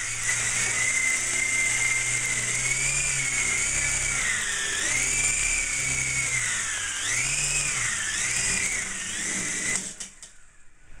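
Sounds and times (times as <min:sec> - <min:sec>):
model helicopter motor whine: 0:00.0 - 0:10.3.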